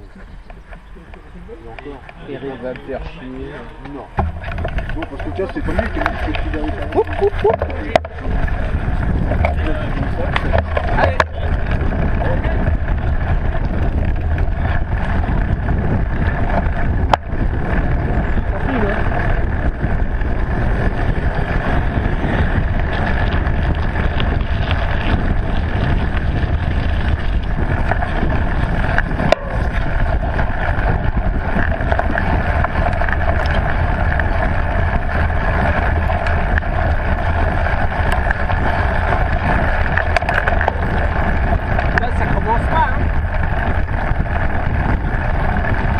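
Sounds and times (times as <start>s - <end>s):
bike tyres rumbling: 0.0s - 45.9s
wind buffeting microphone: 0.0s - 45.9s.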